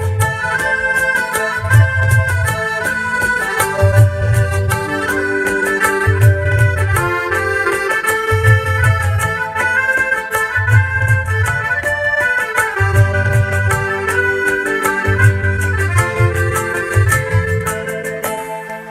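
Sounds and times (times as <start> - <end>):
accordion chords: 0.0 - 18.9
keyboard: 0.0 - 18.9.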